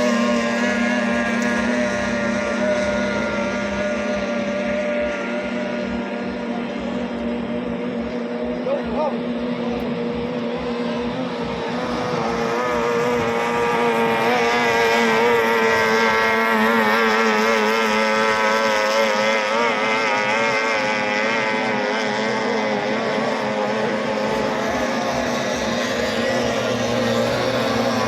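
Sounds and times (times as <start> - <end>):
outboard motor at high revs: 0.0 - 28.0.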